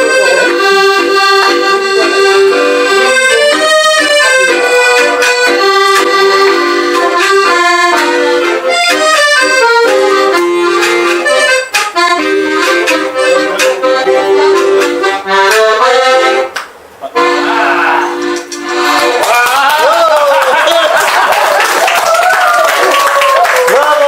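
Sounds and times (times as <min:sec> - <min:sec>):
accordion playing lively melody: 0:00.0 - 0:19.4.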